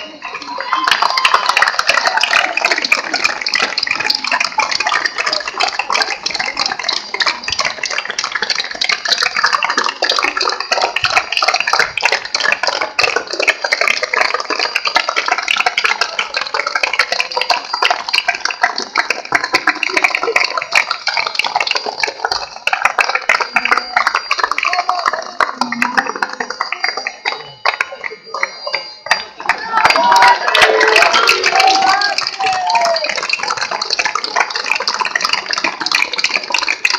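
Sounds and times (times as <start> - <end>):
crowd applauding: 0.0 - 36.9.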